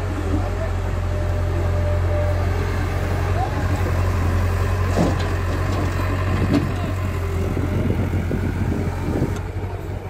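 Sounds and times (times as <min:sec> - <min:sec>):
diesel engines humming: 0:00.0 - 0:10.0.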